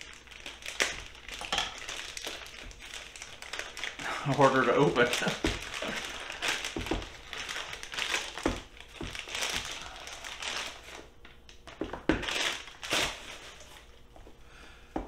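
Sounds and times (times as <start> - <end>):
packaging crinkling and rustling: 0.0 - 14.1.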